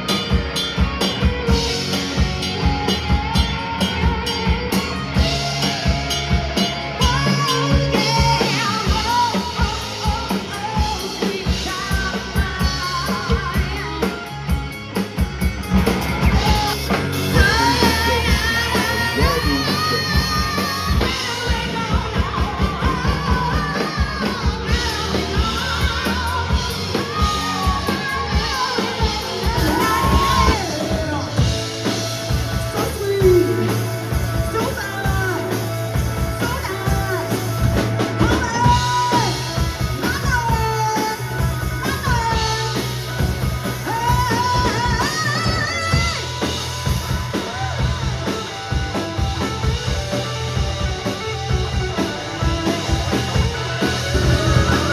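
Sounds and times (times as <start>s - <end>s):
rock music with singer: 0.0s - 54.9s.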